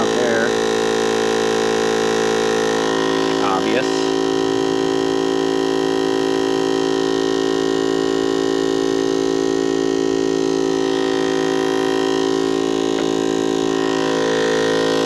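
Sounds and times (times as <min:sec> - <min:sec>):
air compressor humming: 0:00.0 - 0:15.0.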